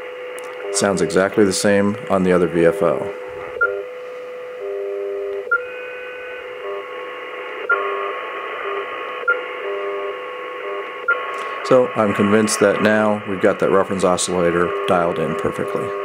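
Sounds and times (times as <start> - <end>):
radio time signal tones: 0.4 - 3.9, 4.6 - 16.0.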